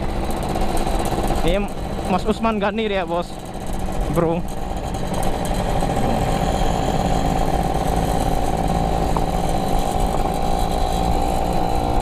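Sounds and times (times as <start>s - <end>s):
two-stroke moped engine running: 0.0s - 12.0s.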